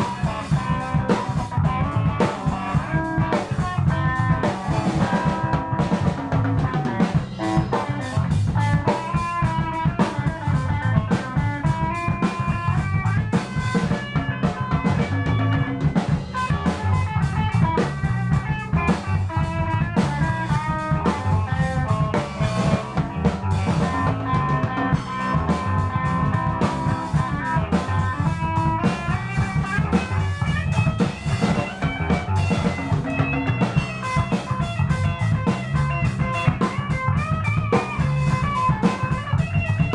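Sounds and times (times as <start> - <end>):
bass guitar: 0.0 - 39.9
drum kit beat: 0.0 - 39.9
electric guitar playing: 0.0 - 39.9.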